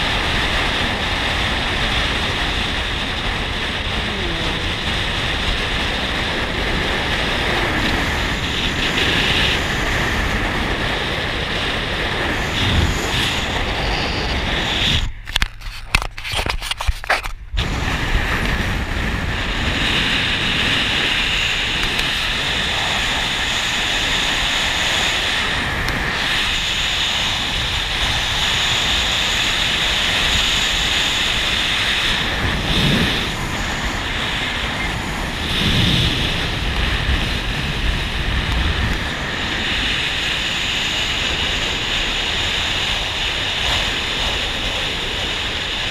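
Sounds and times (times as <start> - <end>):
vehicle road and engine noise: 0.0 - 45.9
wind on microphone: 0.0 - 45.9.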